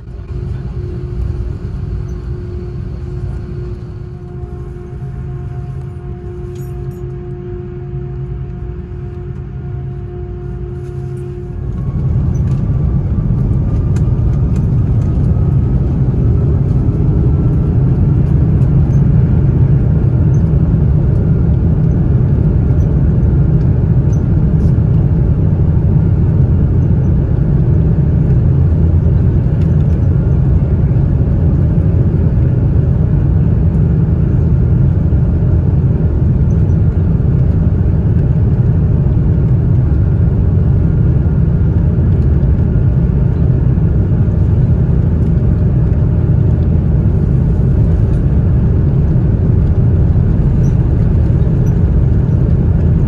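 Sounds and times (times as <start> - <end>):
jet engine rumble and whine: 0.0 - 53.0.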